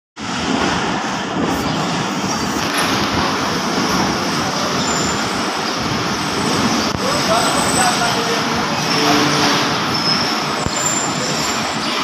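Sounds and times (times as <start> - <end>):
busy railway platform din: 0.2 - 12.0.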